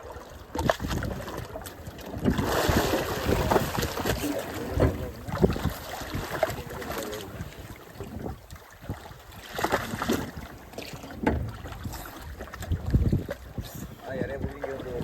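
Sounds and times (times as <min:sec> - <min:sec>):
water sloshing against boat hull: 0:00.0 - 0:15.0
wind on microphone: 0:00.0 - 0:15.0.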